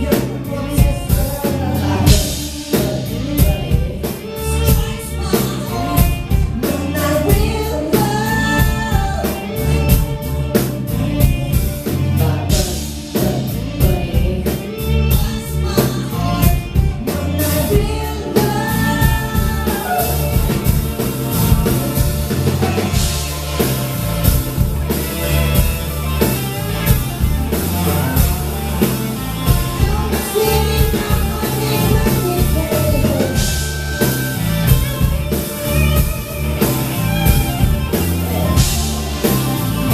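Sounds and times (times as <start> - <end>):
man singing: 0.0 - 23.4, 27.7 - 35.1, 37.9 - 39.9
pop-rock band playing live: 0.0 - 39.9.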